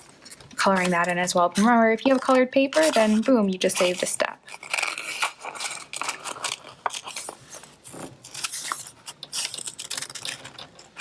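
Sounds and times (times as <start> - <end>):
scissors snipping paper: 0.7 - 11.0.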